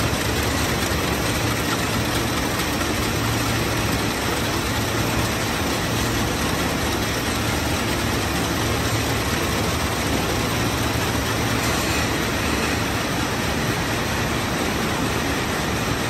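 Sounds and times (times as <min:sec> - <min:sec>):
steady machine noise: 0:00.0 - 0:16.0.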